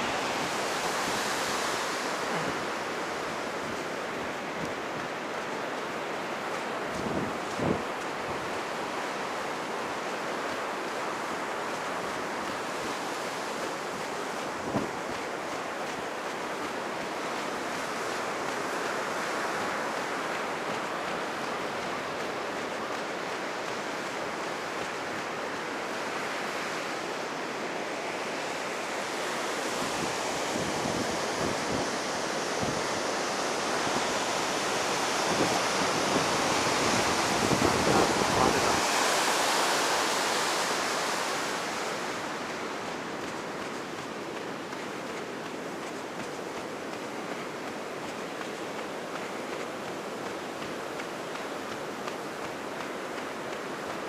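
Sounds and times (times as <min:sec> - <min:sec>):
wind buffeting microphone: 0:00.0 - 0:26.1, 0:29.3 - 0:54.0
ocean surf breaking on beach: 0:00.0 - 0:54.0.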